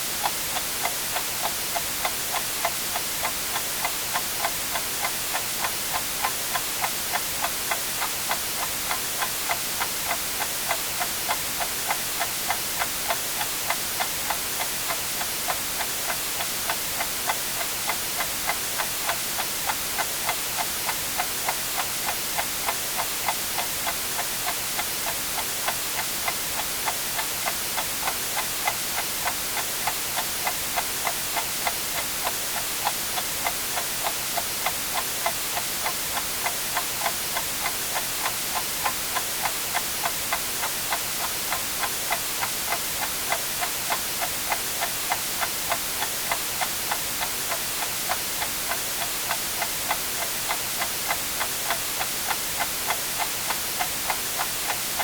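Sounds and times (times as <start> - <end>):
white-noise hiss: 0.0 - 55.0
clock ticking: 0.2 - 55.0.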